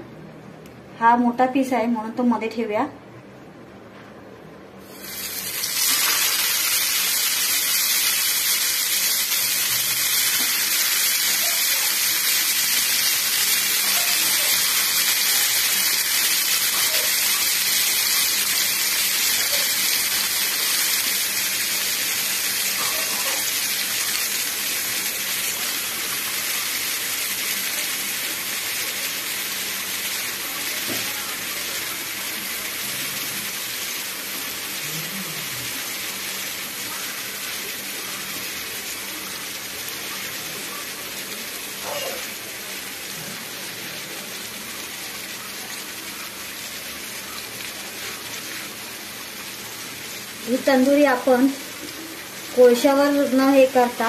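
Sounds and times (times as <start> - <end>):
chicken sizzling in hot oil: 4.8 - 54.0.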